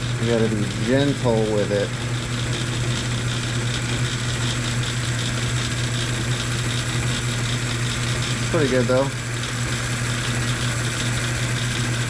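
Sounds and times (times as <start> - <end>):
metal lathe humming: 0.0 - 12.0.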